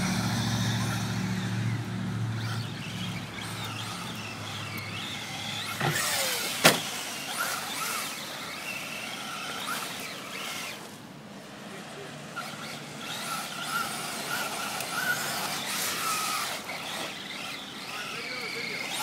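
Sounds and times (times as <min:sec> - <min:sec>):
rc car electric motor whining: 0:00.0 - 0:19.0.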